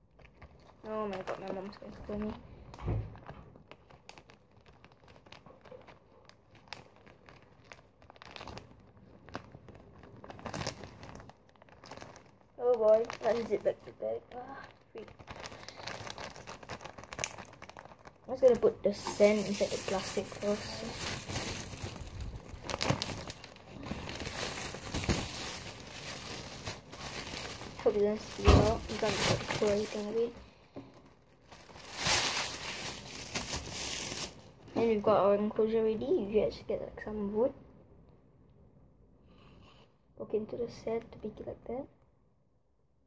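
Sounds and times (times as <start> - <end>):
plastic bag crinkling: 0.0 - 35.7.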